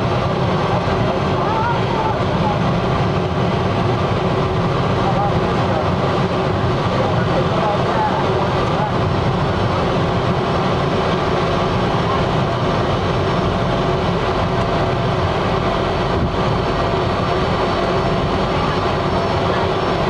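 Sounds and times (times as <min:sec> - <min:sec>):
faint steady whine: 0:00.0 - 0:20.0
turboprop engine running: 0:00.0 - 0:20.0.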